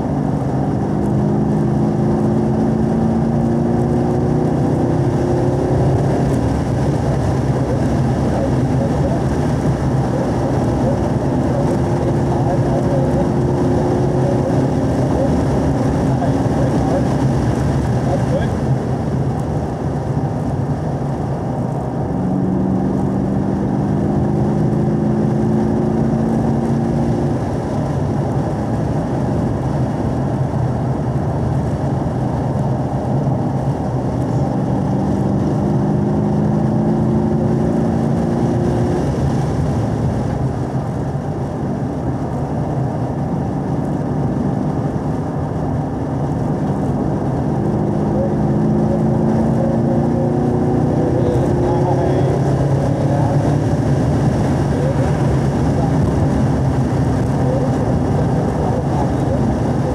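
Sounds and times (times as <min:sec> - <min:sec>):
car engine drone: 0:00.0 - 0:59.9
road and wind noise: 0:00.0 - 0:59.9.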